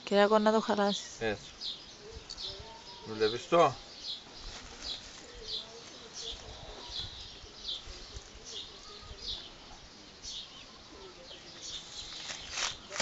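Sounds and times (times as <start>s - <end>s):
small bird chirping: 0.1s - 13.0s.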